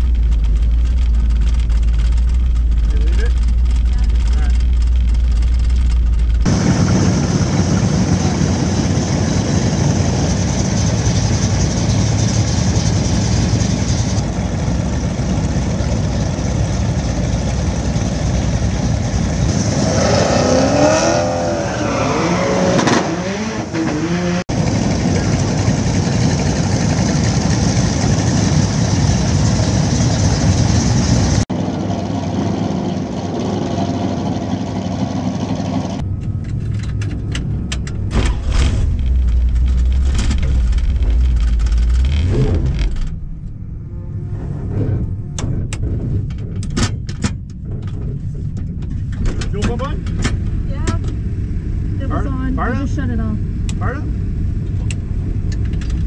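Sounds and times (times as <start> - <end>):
car engines roaring: 0.0 - 56.0.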